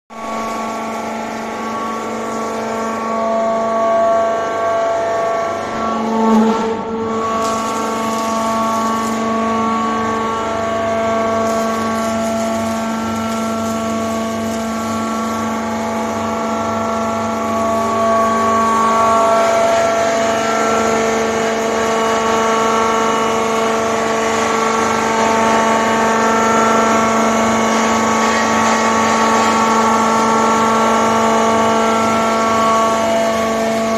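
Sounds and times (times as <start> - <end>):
hydraulic motor and pump humming: 0.2 - 33.9.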